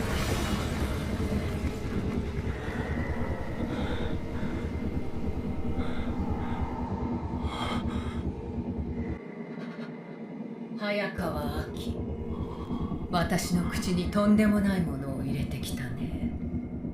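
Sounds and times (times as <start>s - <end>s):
heavy low rumble: 0.0s - 16.9s.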